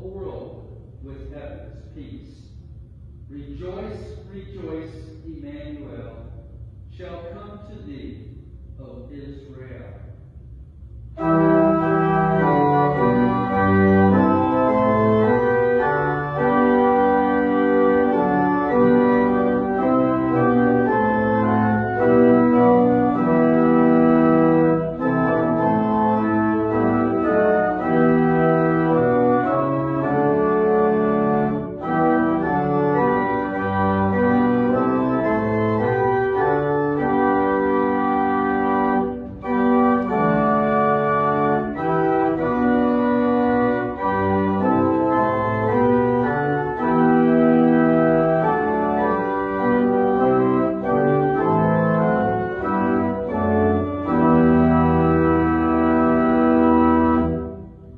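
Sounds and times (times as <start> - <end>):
organ playing sustained chords: 0.0 - 57.9.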